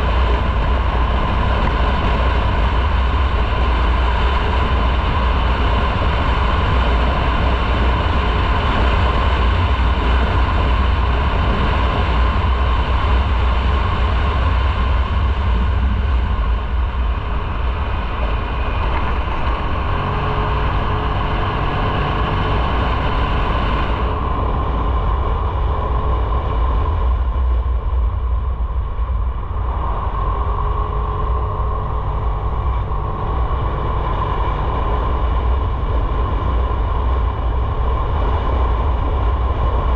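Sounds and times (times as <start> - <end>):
low rumble and rushing: 0.0 - 39.9
motorcycle engine running: 0.0 - 39.9.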